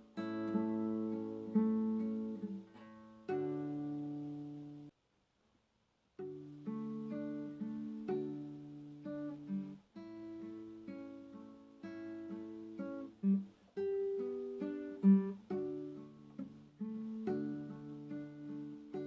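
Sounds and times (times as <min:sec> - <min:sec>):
acoustic guitar plucked slowly: 0:00.0 - 0:04.9, 0:06.2 - 0:19.0.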